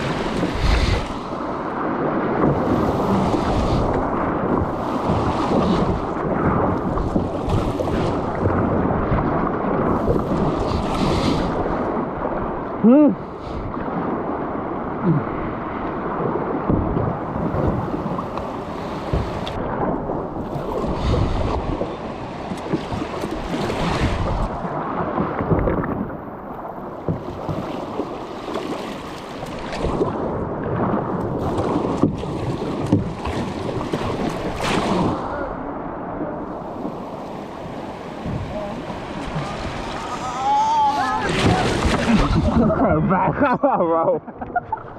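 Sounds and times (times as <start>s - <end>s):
water rushing around kayak: 0.0s - 44.9s.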